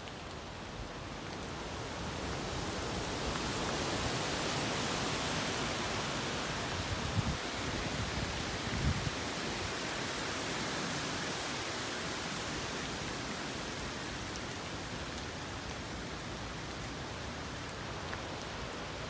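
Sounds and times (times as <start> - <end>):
rain on leaves: 0.0 - 19.0.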